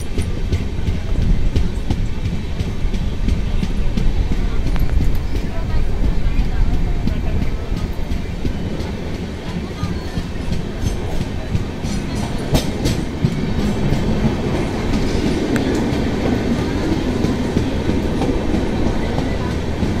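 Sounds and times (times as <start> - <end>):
train wheels rumbling: 0.0 - 20.0
wheels clacking over rail joints: 0.0 - 20.0.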